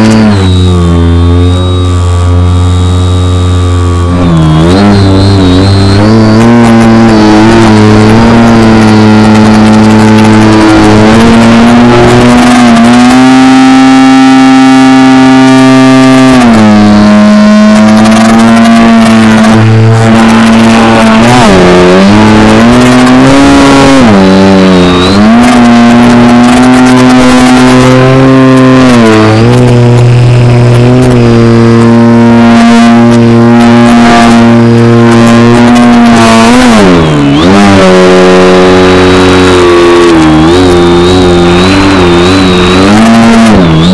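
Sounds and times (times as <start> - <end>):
model plane motor buzzing: 0.0 - 43.9.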